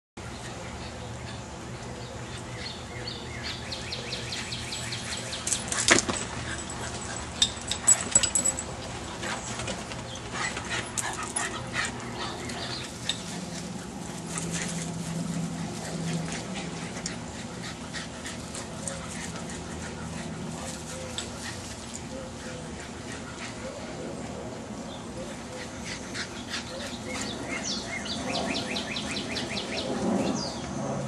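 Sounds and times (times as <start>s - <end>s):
dogs playing and scuffling: 0.3s - 31.0s.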